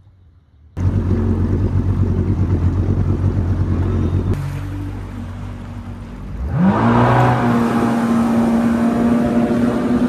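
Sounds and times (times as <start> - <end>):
jet ski engine revving: 0.8 - 10.0
rushing water: 0.9 - 10.0.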